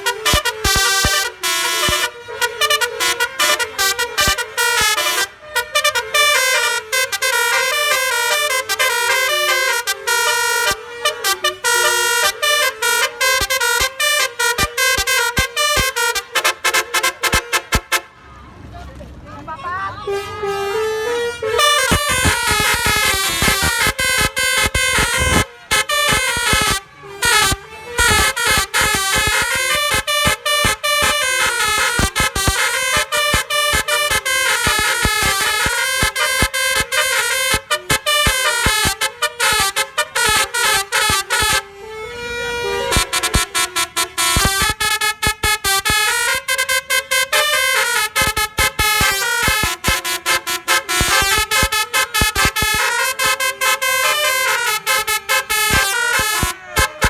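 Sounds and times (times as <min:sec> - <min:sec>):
truck air horn melody: 0:00.0 - 0:18.3, 0:20.0 - 0:57.0.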